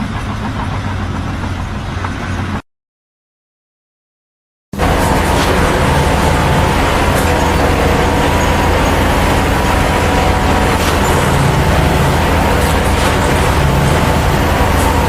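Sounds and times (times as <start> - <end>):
large engine droning: 0.0 - 2.6, 4.8 - 15.0.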